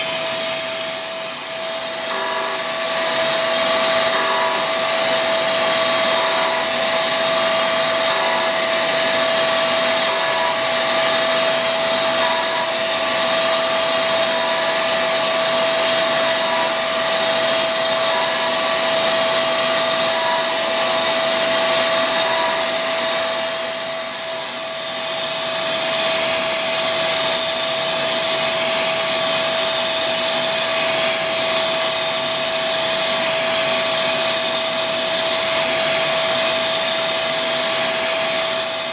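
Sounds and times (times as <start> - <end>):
grinder motor whine: 0.0 - 38.9.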